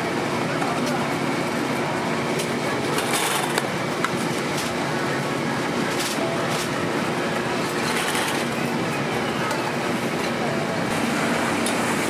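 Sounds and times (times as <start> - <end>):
busy street food stall noise: 0.0 - 12.0.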